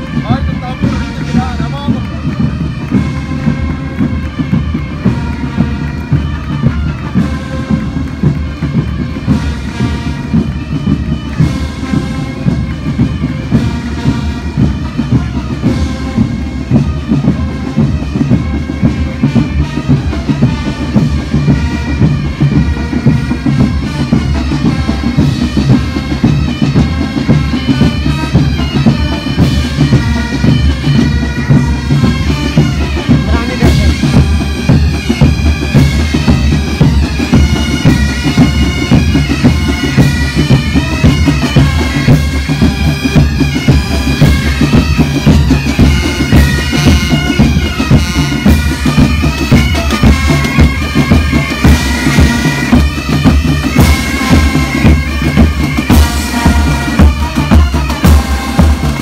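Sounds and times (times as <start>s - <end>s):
bagpipe melody with drones: 0.0s - 59.0s
drums beating: 0.0s - 59.0s.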